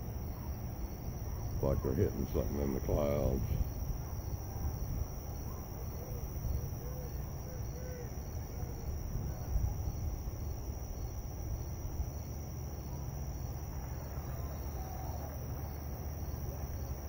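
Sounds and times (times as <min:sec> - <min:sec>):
crickets trilling: 0:00.0 - 0:17.0
low rumbling background noise: 0:00.0 - 0:17.0.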